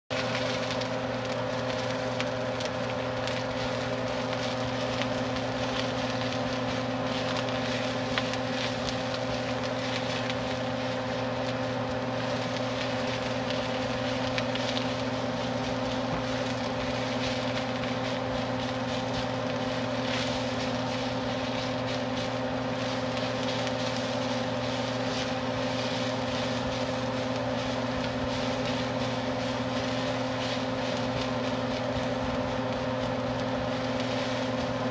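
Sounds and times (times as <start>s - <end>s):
mechanical hum with low tones: 0.1s - 34.9s.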